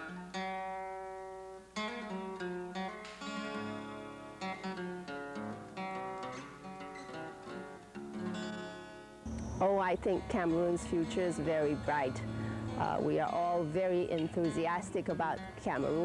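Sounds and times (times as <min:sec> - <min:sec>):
acoustic guitar picking a melody: 0:00.0 - 0:16.0.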